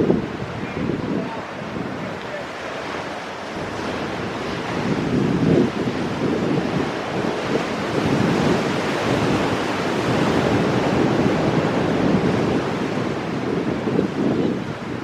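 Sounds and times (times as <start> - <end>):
ocean surf breaking on rocks: 0.0 - 15.0.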